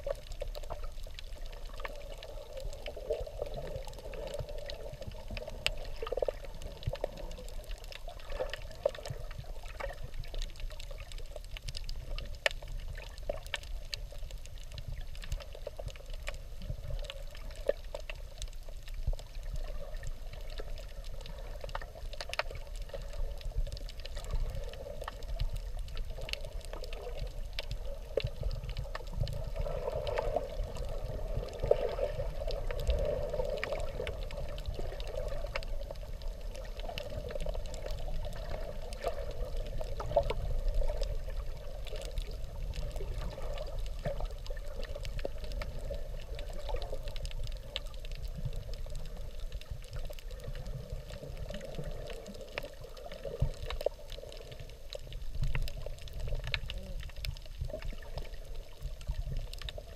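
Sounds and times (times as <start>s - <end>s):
faint underwater clicks: 0.0s - 59.9s
muffled underwater rush: 0.0s - 59.9s.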